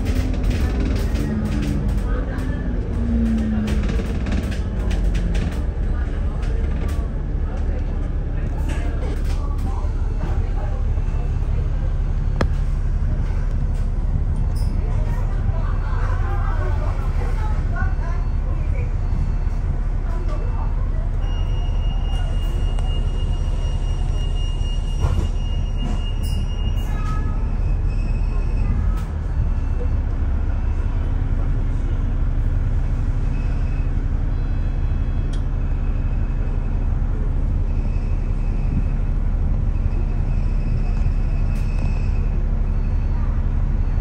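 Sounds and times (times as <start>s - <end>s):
bus engine rumble and road noise: 0.0s - 44.0s.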